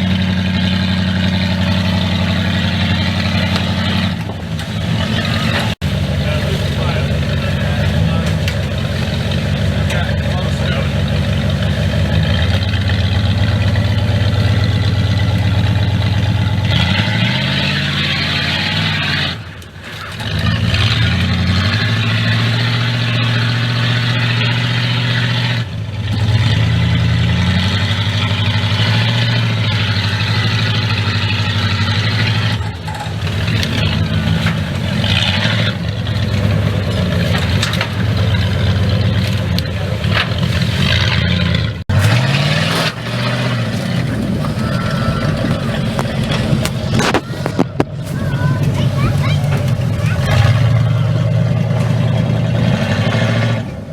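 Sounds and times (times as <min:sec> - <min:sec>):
off-road vehicle engine revving: 0:00.0 - 0:53.9.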